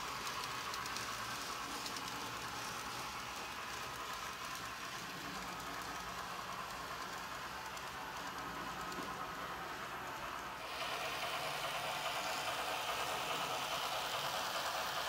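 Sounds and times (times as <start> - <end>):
model train wheels rolling on rails: 0.0 - 15.0.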